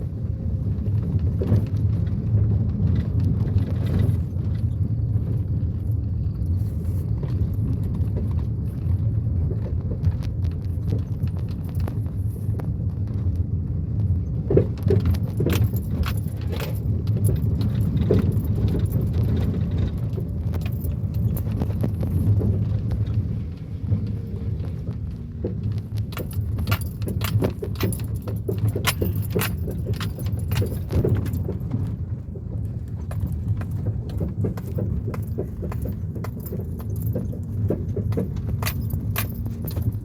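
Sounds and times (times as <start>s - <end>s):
engine and road rumble: 0.0s - 40.0s
rattles and clicks: 0.1s - 40.0s.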